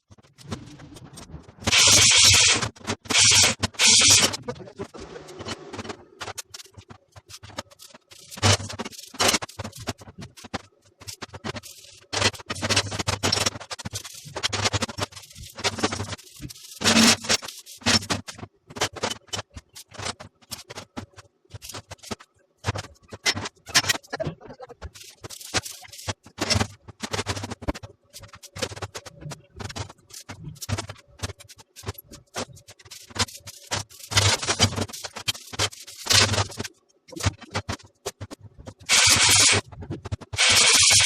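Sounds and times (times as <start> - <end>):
scraping and knocking workshop work: 0.1 - 41.0.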